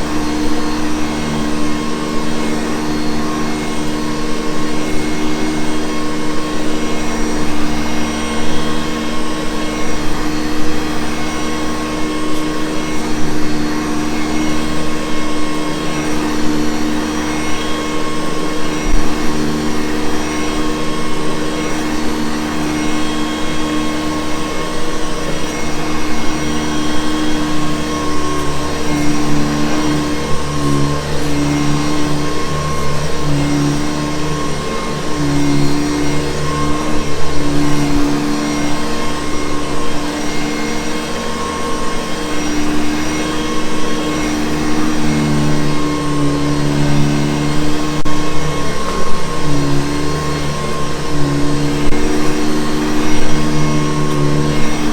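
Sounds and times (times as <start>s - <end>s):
vacuum cleaner motor hum: 0.0s - 54.9s.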